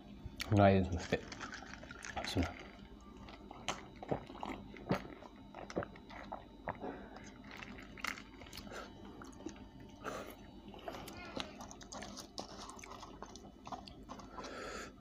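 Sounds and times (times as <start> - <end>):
person chewing crunchy food: 0.4 - 15.0.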